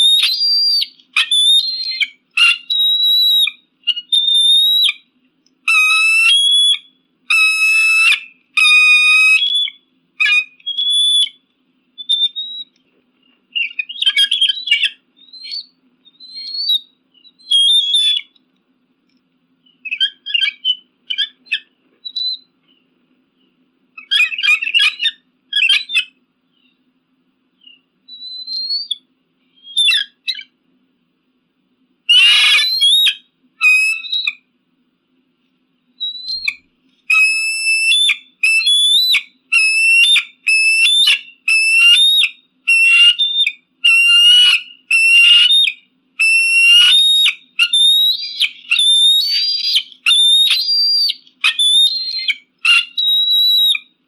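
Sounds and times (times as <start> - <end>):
eagle shrill calls: 0.0 - 11.4, 12.0 - 12.8, 13.5 - 18.4, 19.7 - 22.5, 24.0 - 26.8, 27.6 - 30.6, 32.1 - 34.4, 36.0 - 53.9.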